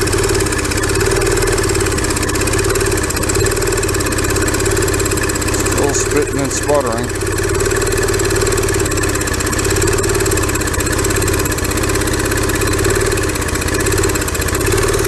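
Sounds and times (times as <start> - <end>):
pressure washer engine running: 0.0 - 15.0.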